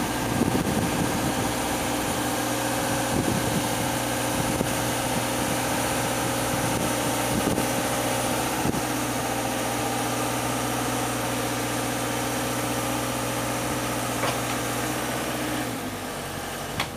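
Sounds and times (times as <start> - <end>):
boom lift engine running: 0.0 - 16.9.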